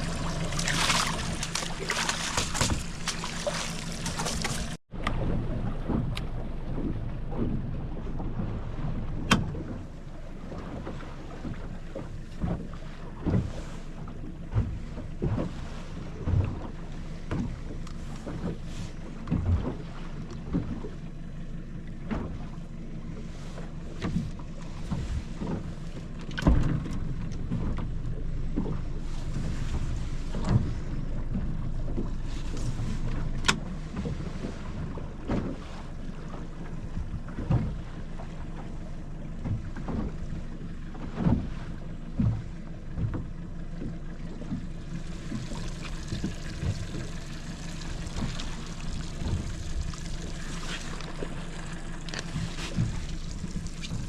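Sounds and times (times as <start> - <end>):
boat motor humming: 0.0 - 54.0.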